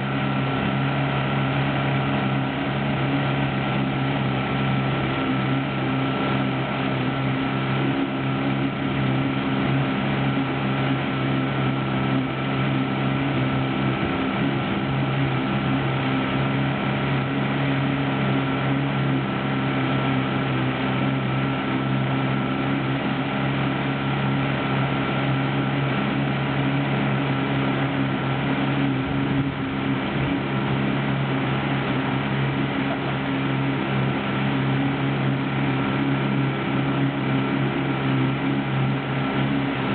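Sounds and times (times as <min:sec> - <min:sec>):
motorboat engine droning: 0:00.0 - 0:39.9
water rushing along hull: 0:00.0 - 0:39.9.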